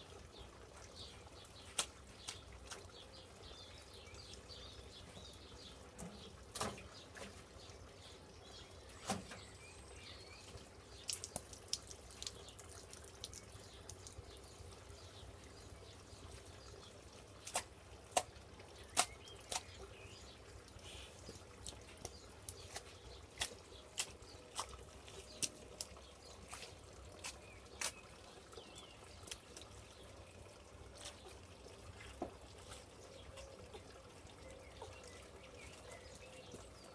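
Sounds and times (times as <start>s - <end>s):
faint steady background noise: 0.0s - 36.9s
water dripping and splashing: 0.0s - 36.9s.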